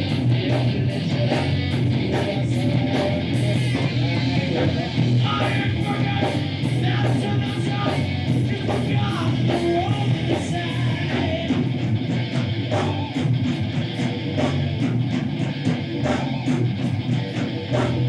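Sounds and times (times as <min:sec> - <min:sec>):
distorted electric guitar: 0:00.0 - 0:18.0
drums: 0:00.0 - 0:18.0
heavy bass: 0:00.0 - 0:18.0.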